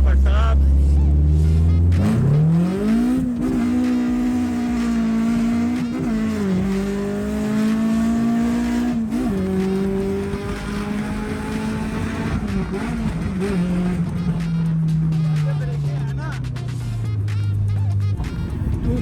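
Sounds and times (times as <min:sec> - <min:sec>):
car engine revving high: 0:00.0 - 0:19.0.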